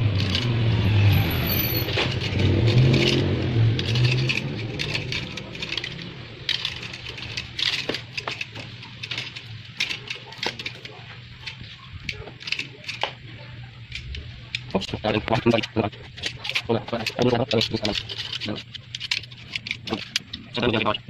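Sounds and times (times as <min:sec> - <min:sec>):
clicks and rustles of wiring: 0:00.0 - 0:21.0
vehicle engine humming: 0:00.0 - 0:21.0.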